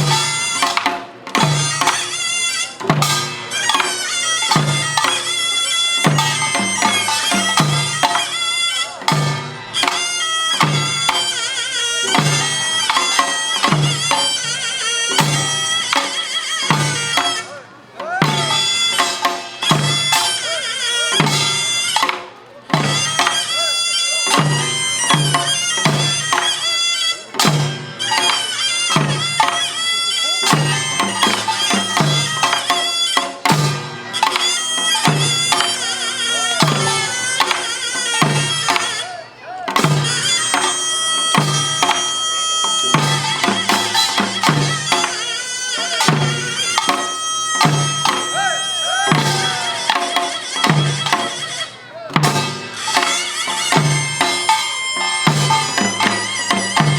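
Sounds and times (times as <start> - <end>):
double-reed shawm melody: 0.0 - 56.9
drums and gongs beat: 0.0 - 56.9.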